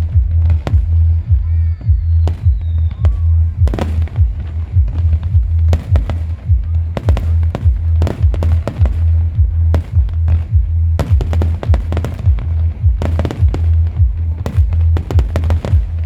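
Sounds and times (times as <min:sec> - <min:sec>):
loud music with pulsing bass: 0:00.0 - 0:16.0
fireworks bursting and crackling: 0:02.0 - 0:16.0.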